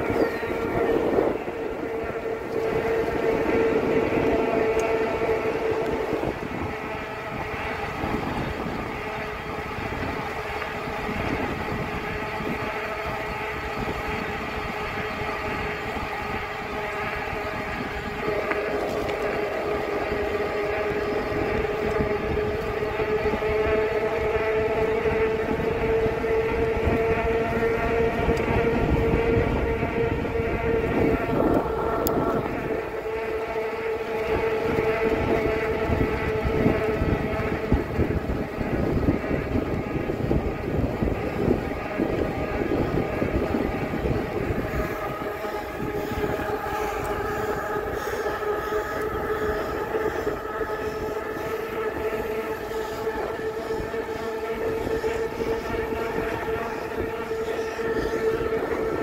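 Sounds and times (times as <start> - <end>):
e-bike drive and tyres humming: 0.0 - 59.0
wind on microphone: 0.0 - 59.0.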